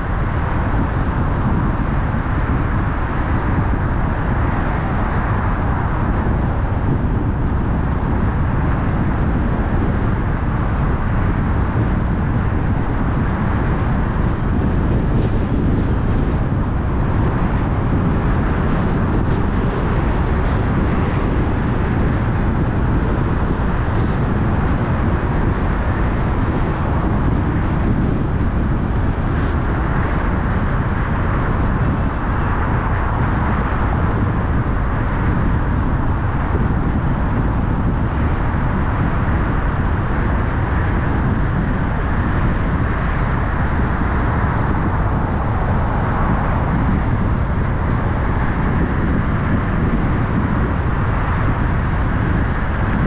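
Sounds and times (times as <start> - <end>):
car tyre and engine noise: 0.0 - 53.0.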